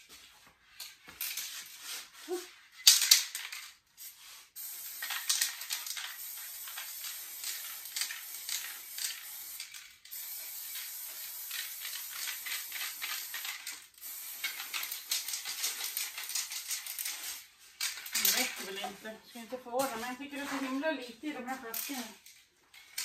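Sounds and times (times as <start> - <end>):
spray can rattle: 0.8 - 23.0
spray paint can hissing: 1.2 - 20.9.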